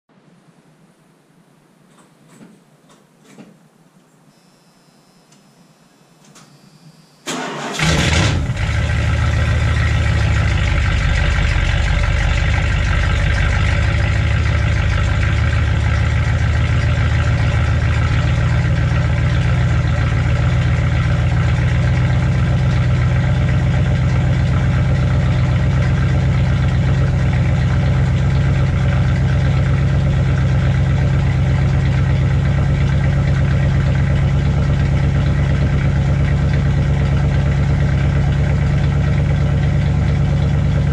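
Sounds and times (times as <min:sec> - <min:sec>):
engine idling: 0:07.3 - 0:40.9
pickup engine cranking and starting: 0:07.3 - 0:40.9.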